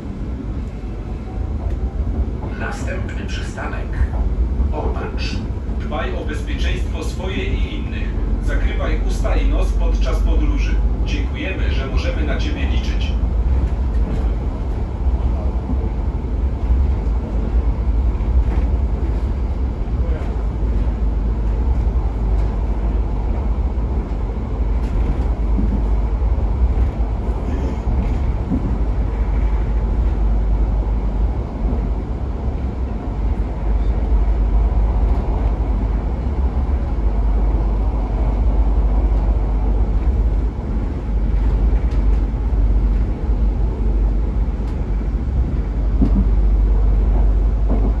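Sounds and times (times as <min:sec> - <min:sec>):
train running noise from inside: 0:00.0 - 0:48.0.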